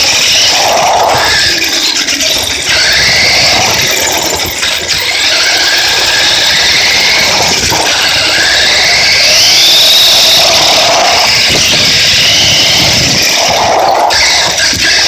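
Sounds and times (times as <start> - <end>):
toy truck motors whining: 0.0 - 15.0
tyre noise: 0.0 - 15.0.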